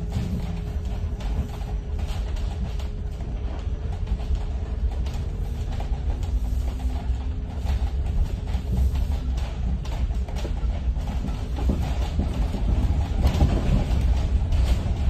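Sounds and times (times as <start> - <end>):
body rattles and knocks: 0.0 - 15.0
bus tyres rumbling on gravel: 0.0 - 15.0.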